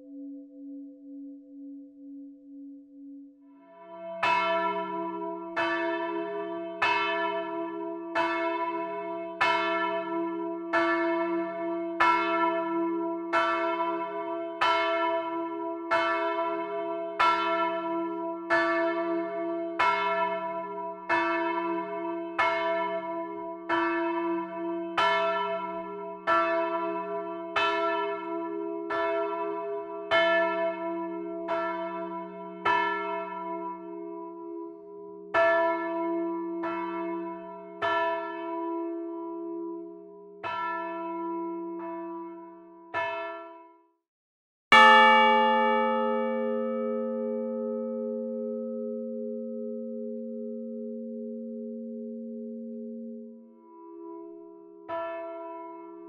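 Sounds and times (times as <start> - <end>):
church bell ringing: 0.0 - 43.8, 44.7 - 56.0.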